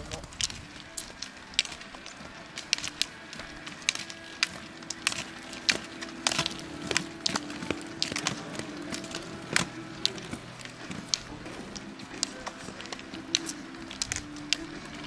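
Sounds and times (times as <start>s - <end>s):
pole tips clicking on road: 0.0s - 15.0s
roller-ski wheels humming: 0.0s - 15.0s.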